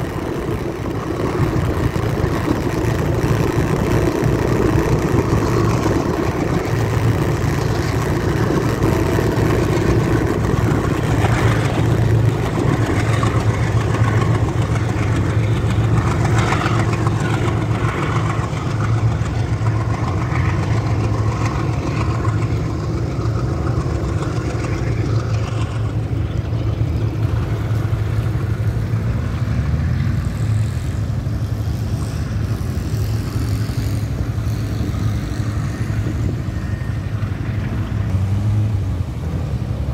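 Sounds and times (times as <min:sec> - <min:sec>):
low engine drone: 0:00.0 - 0:39.9
road and wind noise: 0:00.0 - 0:39.9.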